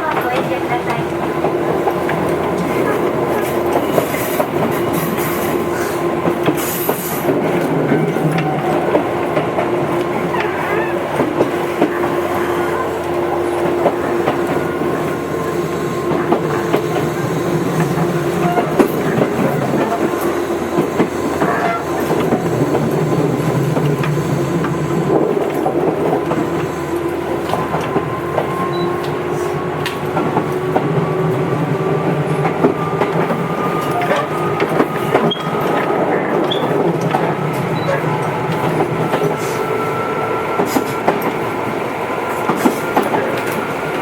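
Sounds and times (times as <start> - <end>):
train running rumble: 0.0 - 44.0
wheels clicking on rail joints: 0.0 - 44.0.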